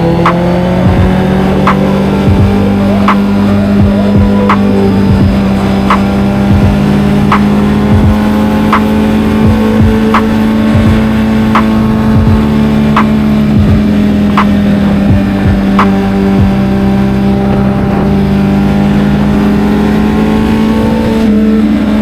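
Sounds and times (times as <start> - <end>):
motorcycle engine cruising: 0.0 - 22.0.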